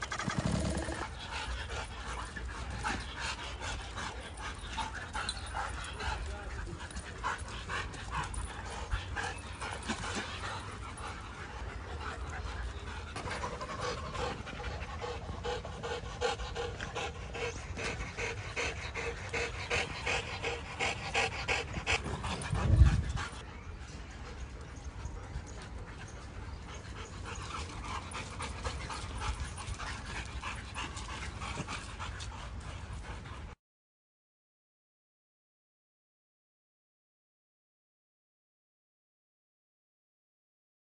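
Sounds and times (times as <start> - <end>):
dogs panting: 0.0 - 33.6.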